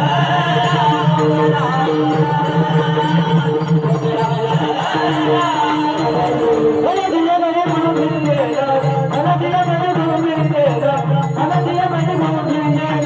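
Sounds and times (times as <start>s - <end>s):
held accompaniment tones: 0.0s - 13.0s
man singing devotional song: 0.0s - 13.0s
small hand cymbals: 0.0s - 13.0s.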